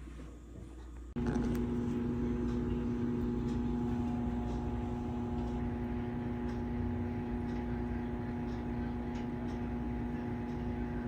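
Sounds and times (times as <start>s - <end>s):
machine hum with low rumble: 0.0s - 11.0s.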